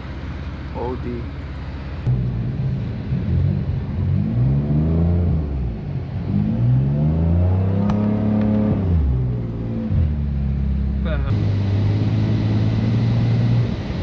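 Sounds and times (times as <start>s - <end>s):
car engine revving: 1.3s - 14.0s.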